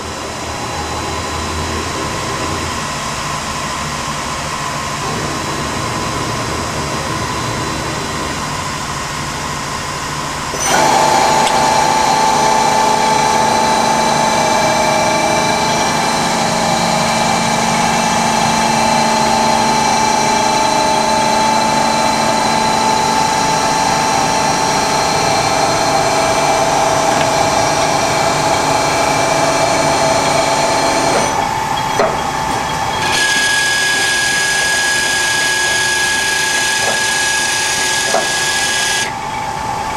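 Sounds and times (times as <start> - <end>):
lathe mechanical whine: 0.0 - 39.9.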